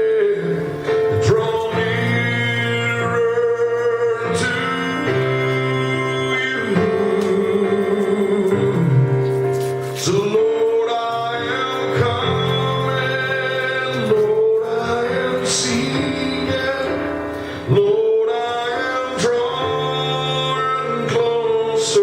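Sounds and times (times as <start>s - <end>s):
instrumental backing track: 0.0s - 22.0s
man singing gospel song: 0.0s - 22.0s.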